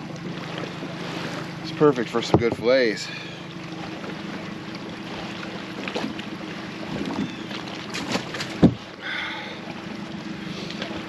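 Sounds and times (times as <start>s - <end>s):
boat motor idling: 0.0s - 11.0s
knocks and clatters in boat: 0.0s - 11.0s.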